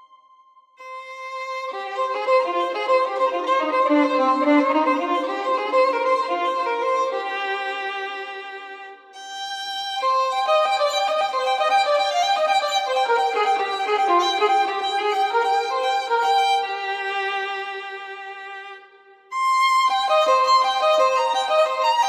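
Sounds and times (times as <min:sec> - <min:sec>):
solo violin melody: 0:00.8 - 0:22.0.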